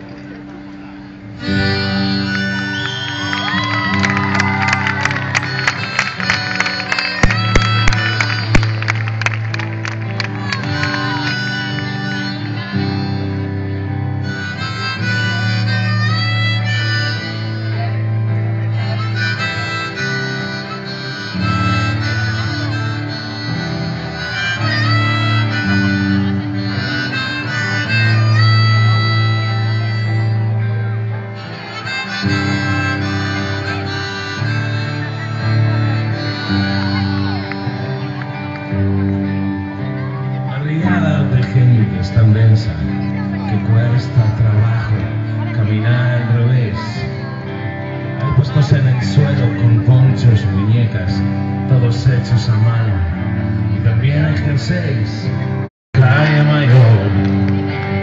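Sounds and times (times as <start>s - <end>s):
harmonica long notes: 0.0s - 58.0s
strummed guitar: 0.0s - 58.0s.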